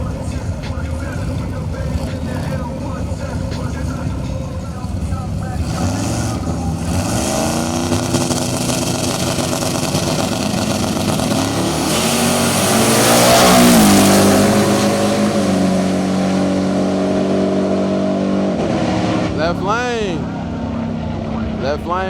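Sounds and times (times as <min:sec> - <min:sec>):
trucks at full throttle: 0:00.0 - 0:22.0.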